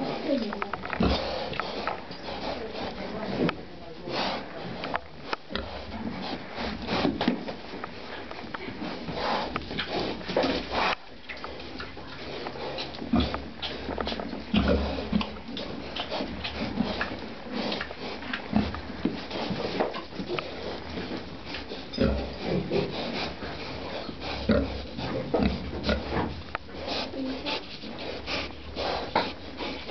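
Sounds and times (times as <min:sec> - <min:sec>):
pigs grunting and snuffling: 0:00.0 - 0:29.9.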